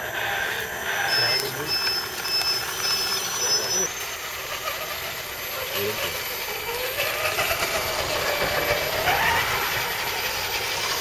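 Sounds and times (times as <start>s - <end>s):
small electric motors whining: 0.0s - 11.0s.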